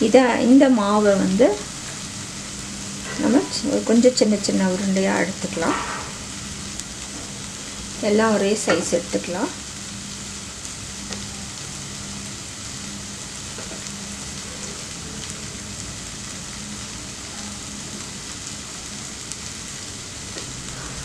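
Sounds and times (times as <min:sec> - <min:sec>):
food sizzling in a pan: 0:00.0 - 0:21.0
low steady hum: 0:00.0 - 0:21.0.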